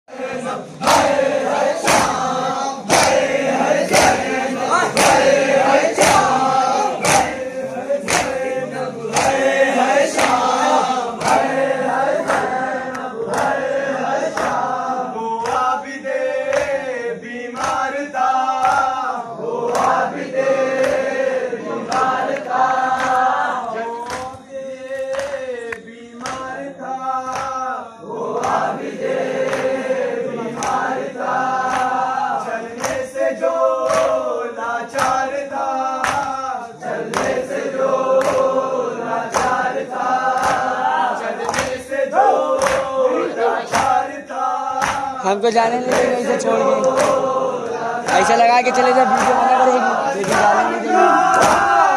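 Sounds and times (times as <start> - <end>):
men chanting a lament: 0.1 - 51.9
rhythmic chest-beating: 0.1 - 51.9.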